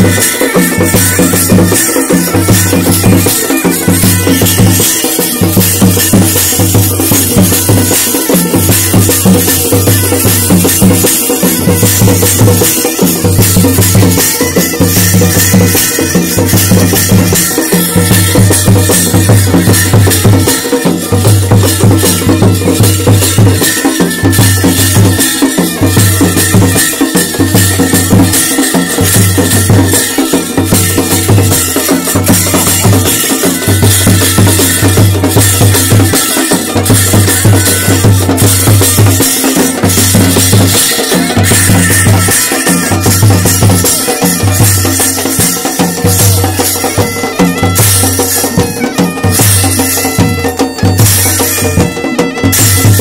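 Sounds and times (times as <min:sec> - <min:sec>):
drums beating a steady rhythm: 0:00.0 - 0:53.0.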